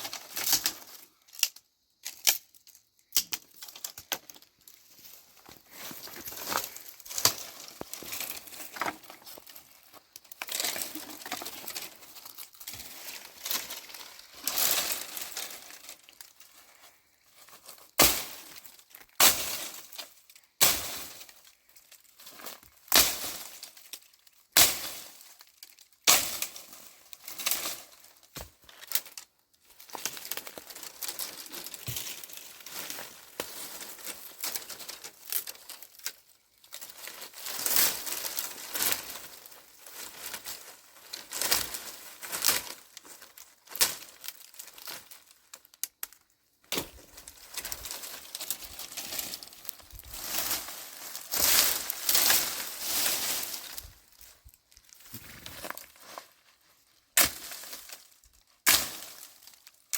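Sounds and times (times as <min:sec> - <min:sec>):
rustling and crinkling: 0:00.0 - 0:59.9.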